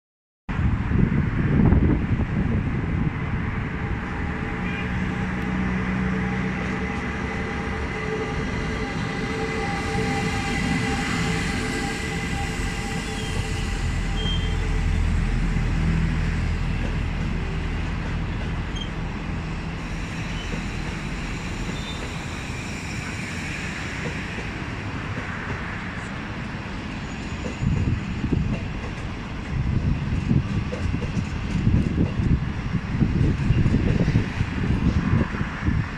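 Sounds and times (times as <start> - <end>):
electric locomotive humming: 0.6 - 35.9
train wheels running on rails: 5.3 - 35.9.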